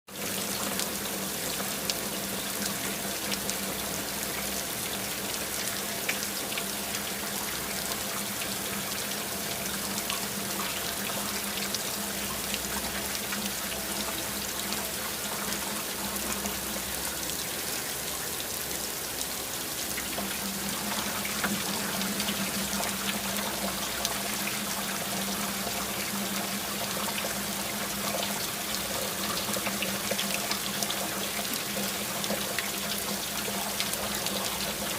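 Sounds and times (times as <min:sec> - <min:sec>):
water running: 0:00.1 - 0:34.9.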